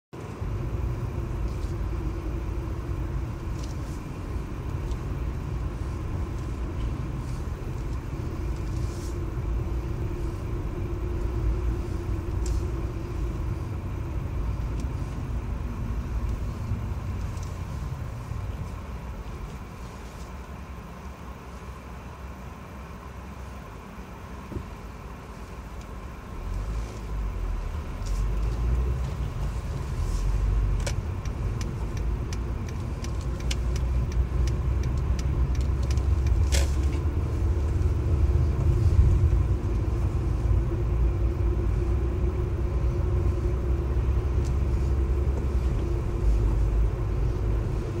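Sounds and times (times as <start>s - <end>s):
car engine rumble: 0.1s - 48.0s
road noise: 0.1s - 48.0s.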